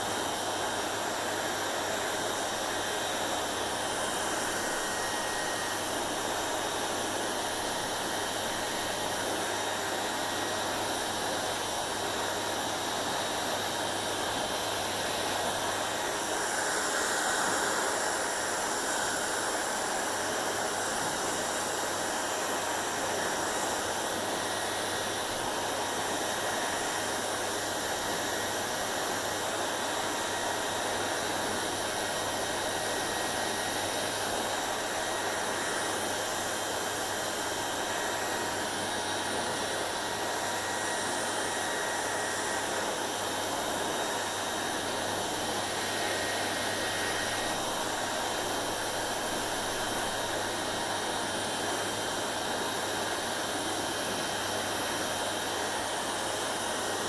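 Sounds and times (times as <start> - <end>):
hair dryer blowing air: 0.0 - 57.0
hair dryer motor hum: 0.0 - 57.0.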